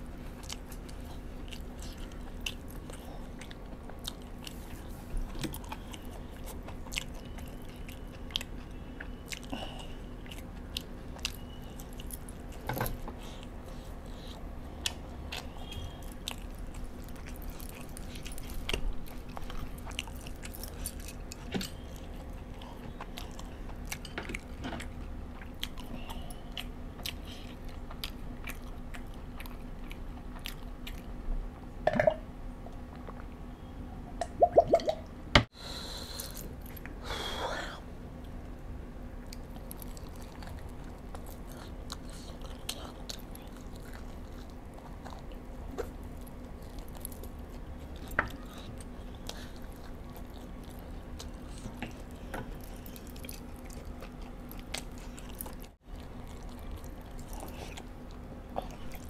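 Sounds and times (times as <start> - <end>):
person chewing wetly: 0.1 - 32.1, 39.2 - 59.0.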